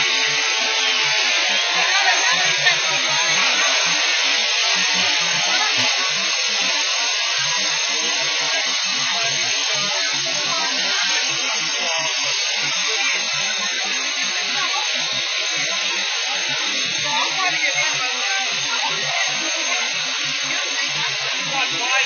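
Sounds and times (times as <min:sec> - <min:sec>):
fire hoses spraying water: 0:00.0 - 0:22.0.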